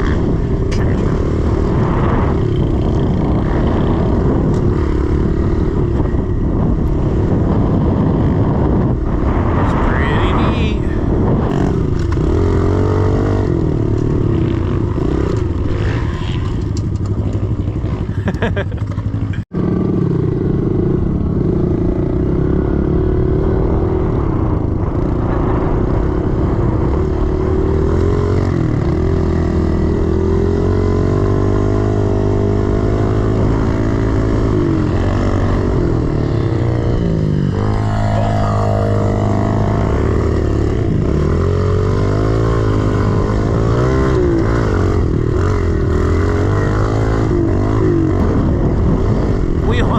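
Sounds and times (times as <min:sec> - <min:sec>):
pit bike engine running: 0:00.0 - 0:49.9.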